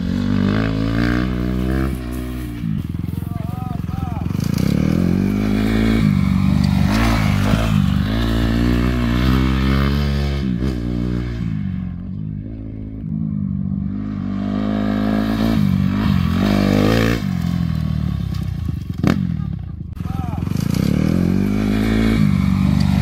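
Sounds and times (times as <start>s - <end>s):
motocross bike revving: 0.0s - 23.0s.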